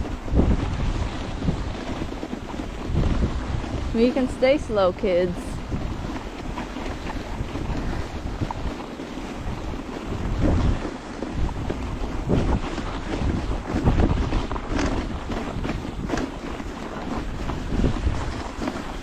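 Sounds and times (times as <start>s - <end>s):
dog sled rushing on snow: 0.0s - 19.0s
wind buffeting microphone: 0.0s - 19.0s.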